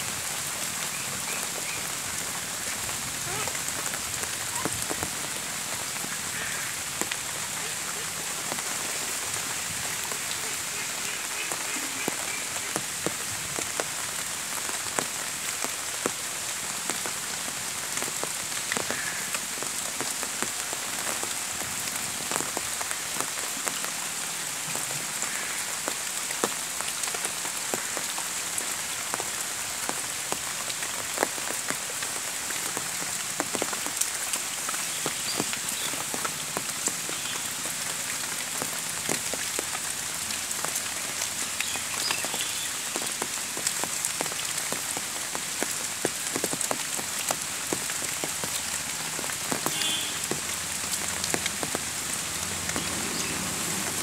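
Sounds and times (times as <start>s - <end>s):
rain on foliage: 0.0s - 54.0s.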